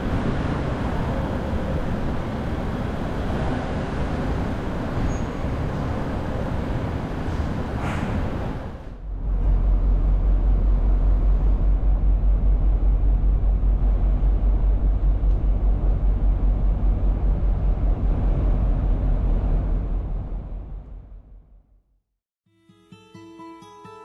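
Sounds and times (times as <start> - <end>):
ferry diesel engines rumbling: 0.0 - 21.4.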